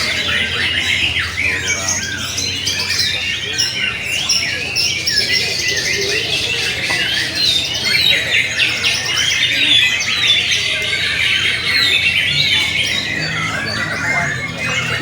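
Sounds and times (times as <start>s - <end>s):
songbirds singing in chorus: 0.0s - 15.0s.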